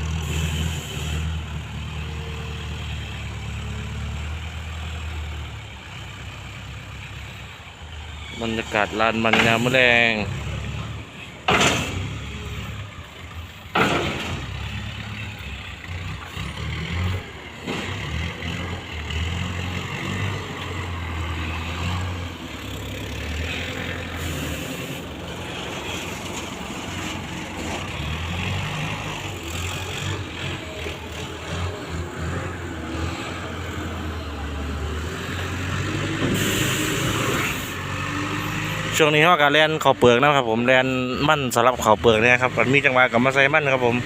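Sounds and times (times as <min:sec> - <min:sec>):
heavy diesel engine running: 0:00.0 - 0:40.6.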